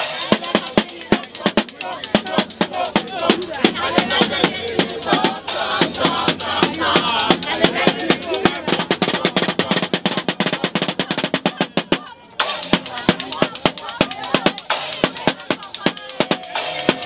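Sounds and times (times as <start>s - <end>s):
loud drum hit: 0.0s - 17.0s
snare drum roll: 0.0s - 17.0s.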